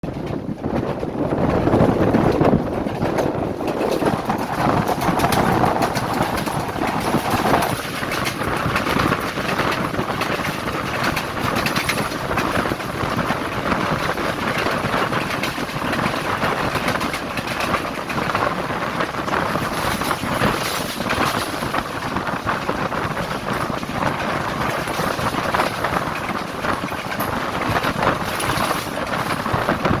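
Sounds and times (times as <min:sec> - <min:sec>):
train clanks: 0:00.0 - 0:30.0
train wheel and track noise: 0:00.0 - 0:30.0.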